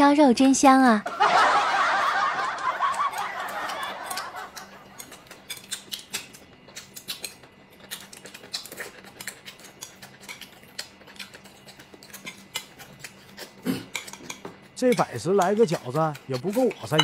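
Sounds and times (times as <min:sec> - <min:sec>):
chewing food: 0:02.0 - 0:17.0
chopsticks clicking on plates: 0:02.4 - 0:17.0.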